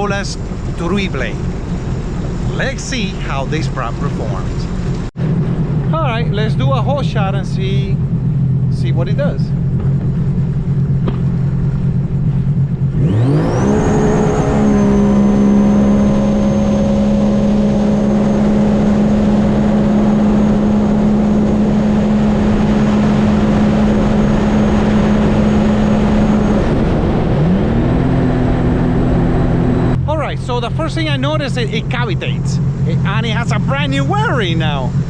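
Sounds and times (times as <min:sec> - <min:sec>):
jet ski engine revving: 0:00.0 - 0:35.0.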